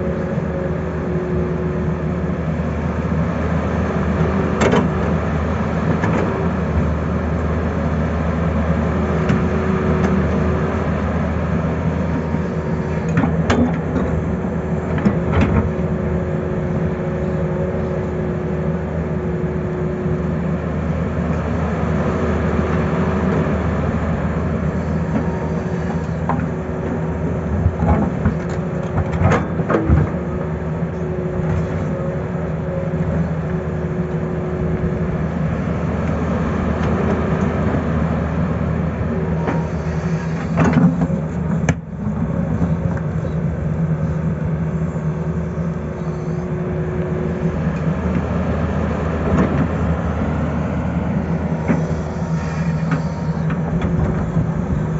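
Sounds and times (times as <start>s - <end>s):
excavator diesel engine with whine: 0.0s - 54.9s.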